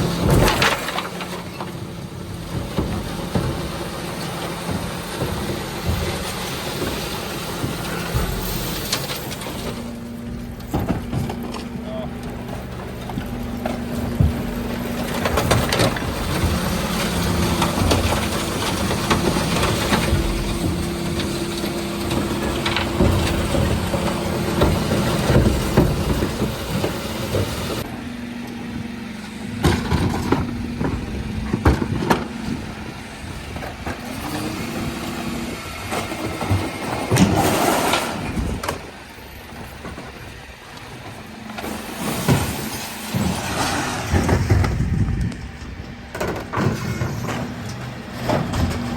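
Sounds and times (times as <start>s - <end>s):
knocks and clanks: 0.0s - 27.9s, 29.4s - 48.9s
refuse truck engine running: 0.0s - 48.9s.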